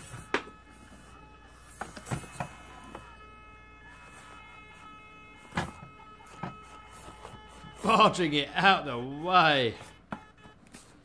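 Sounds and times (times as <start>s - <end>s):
toy motor whine: 0.0s - 11.0s.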